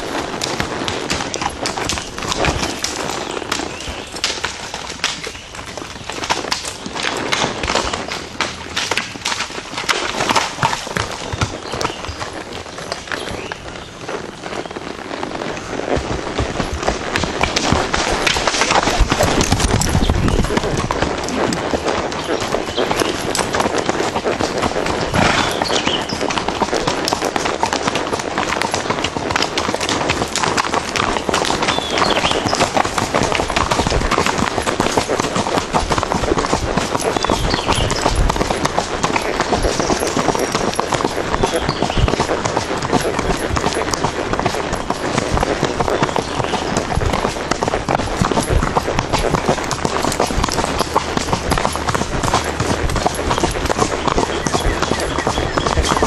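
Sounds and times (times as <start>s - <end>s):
horse hooves clattering on stones: 0.0s - 56.0s.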